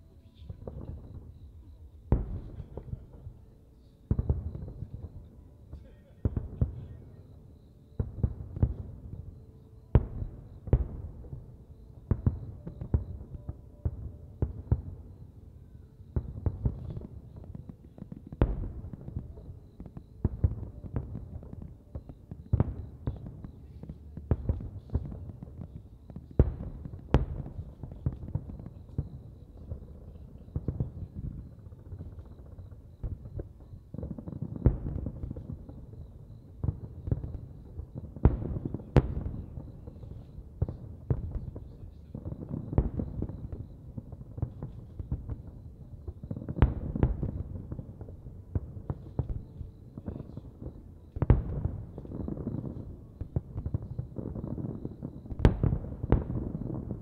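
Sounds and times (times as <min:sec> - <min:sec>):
fireworks booming: 0:00.3 - 0:03.5, 0:04.1 - 0:57.0.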